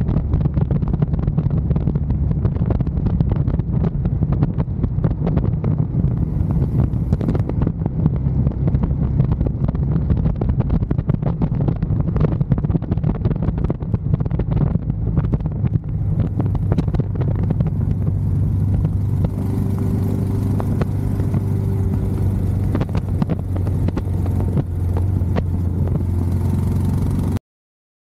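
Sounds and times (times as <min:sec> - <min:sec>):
motorcycle engine running steadily: 0:00.0 - 0:27.4.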